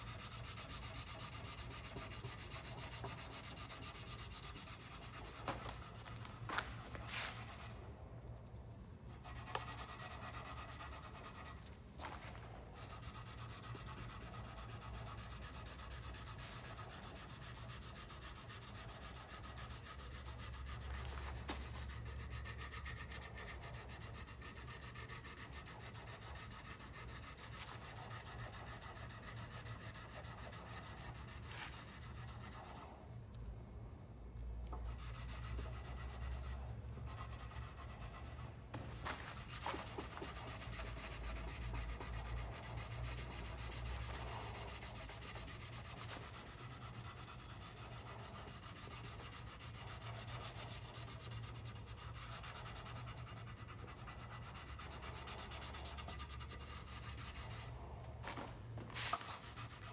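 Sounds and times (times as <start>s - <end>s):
sandpaper scratching: 0.0s - 8.6s, 9.2s - 11.7s, 12.7s - 32.9s, 34.9s - 57.7s, 59.0s - 59.9s.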